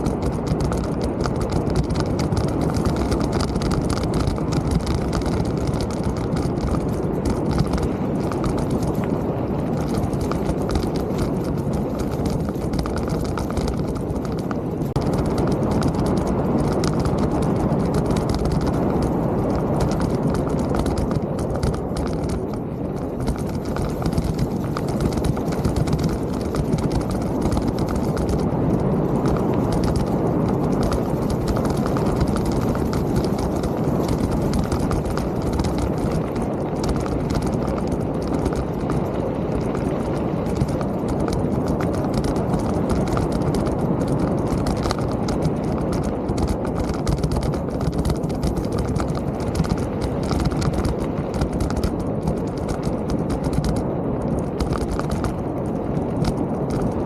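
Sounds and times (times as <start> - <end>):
bike clattering over bumps: 0.0 - 57.0
mountain bike rumble: 0.0 - 57.0.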